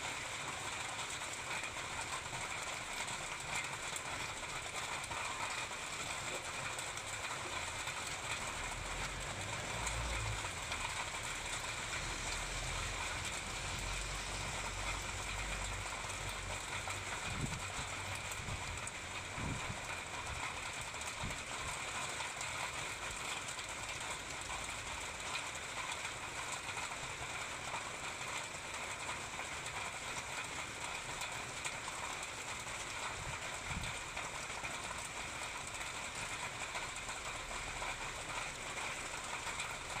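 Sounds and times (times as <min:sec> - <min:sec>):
rain on wet pavement: 0:00.0 - 0:40.0.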